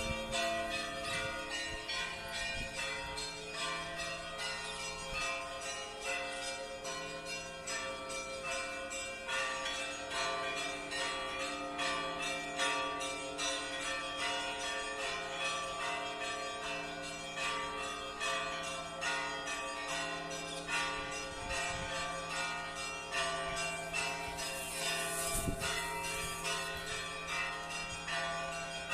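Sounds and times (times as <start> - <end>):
church bells ringing: 0.0 - 28.9.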